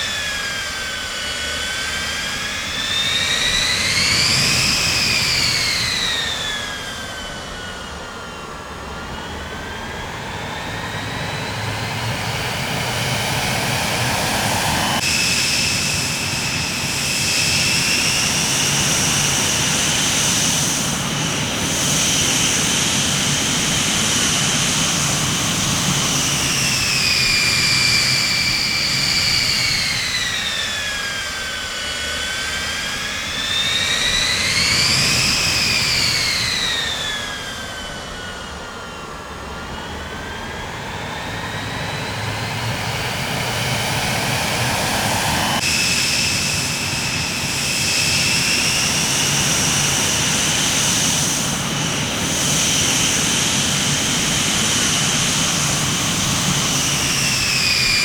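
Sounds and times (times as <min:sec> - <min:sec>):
high turbine whine: 0:00.0 - 0:58.0
jet engines roaring: 0:00.0 - 0:58.0.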